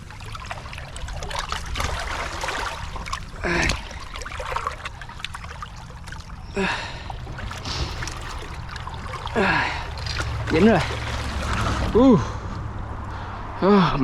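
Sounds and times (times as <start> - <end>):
water lapping at shoreline: 0.0 - 12.8.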